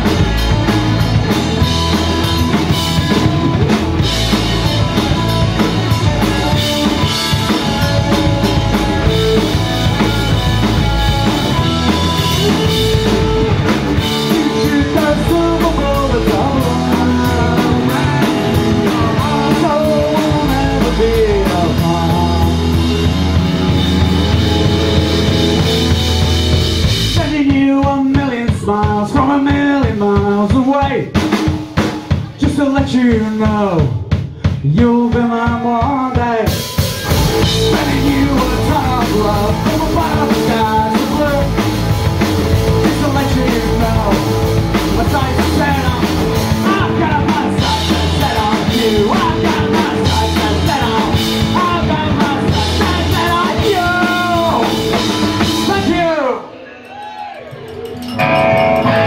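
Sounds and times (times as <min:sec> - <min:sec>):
electric guitars: 0:00.0 - 0:27.5, 0:36.4 - 0:56.3, 0:57.2 - 0:59.0
bass guitar: 0:00.0 - 0:56.4, 0:57.5 - 0:59.0
drum kit: 0:00.0 - 0:56.4.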